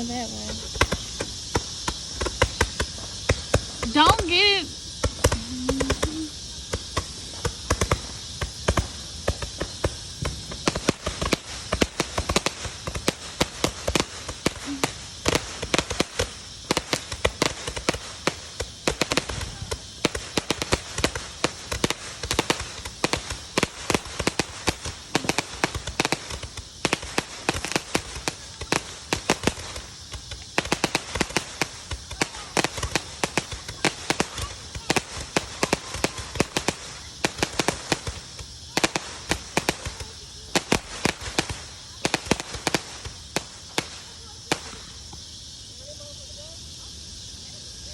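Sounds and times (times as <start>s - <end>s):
loud firework bangs: 0.0s - 46.6s
firecrackers popping: 0.0s - 47.9s.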